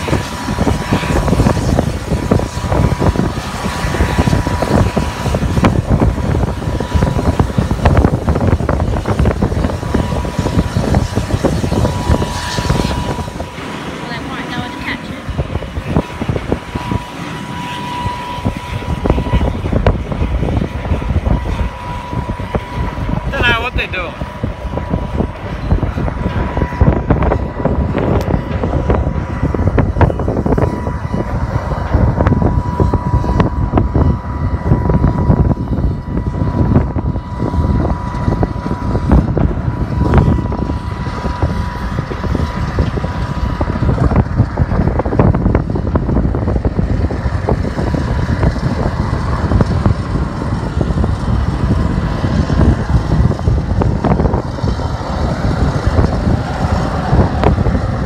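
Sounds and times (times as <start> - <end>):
thin steady whine: 0.0 - 58.0
tractor diesel engine running: 0.0 - 58.0
wind buffeting microphone: 0.0 - 58.0.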